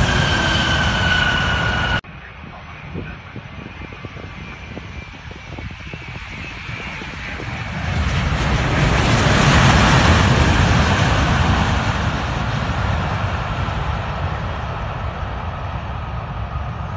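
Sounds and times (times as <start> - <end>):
jet engine roar: 0.0 - 16.9.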